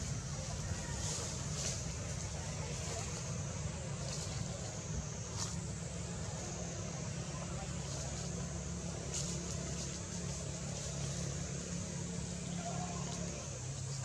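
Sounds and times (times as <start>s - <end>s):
low even hum: 0.0s - 14.0s.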